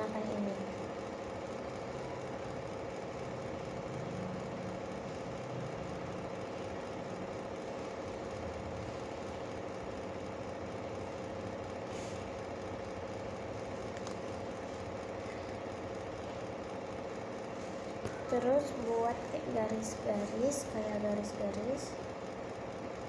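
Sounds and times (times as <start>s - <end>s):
machine hum with steady tone: 0.0s - 23.0s.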